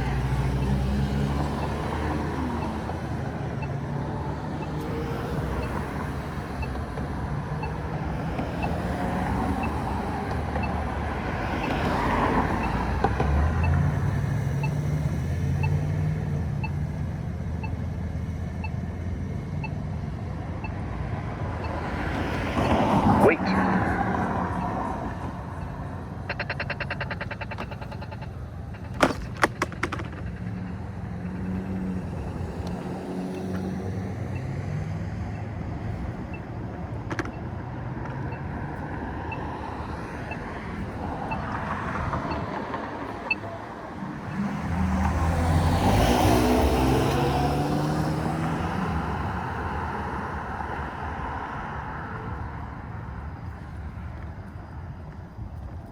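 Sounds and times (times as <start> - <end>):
road and traffic noise: 0.0 - 55.9.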